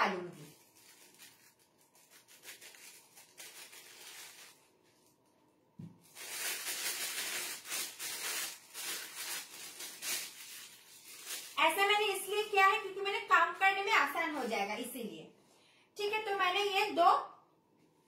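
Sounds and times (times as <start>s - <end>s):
plastic piping bag crinkling: 0.0s - 14.6s.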